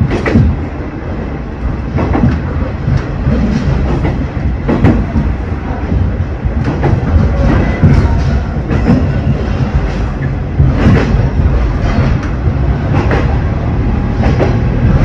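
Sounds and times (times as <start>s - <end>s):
railcar rumbling on rails: 0.0s - 15.0s.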